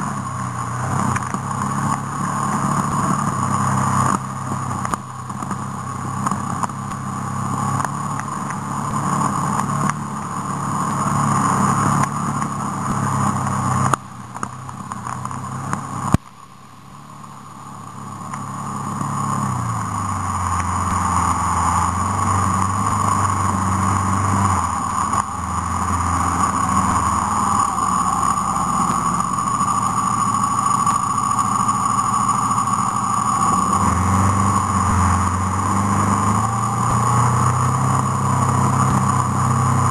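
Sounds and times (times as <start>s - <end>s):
road and wind noise: 0.0s - 39.9s
vehicle engine running: 0.0s - 39.9s.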